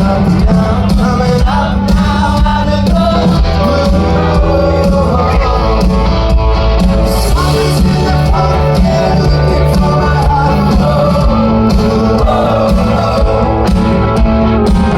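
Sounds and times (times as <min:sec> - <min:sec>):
bass line: 0:00.0 - 0:14.9
rock band playing live: 0:00.0 - 0:14.9.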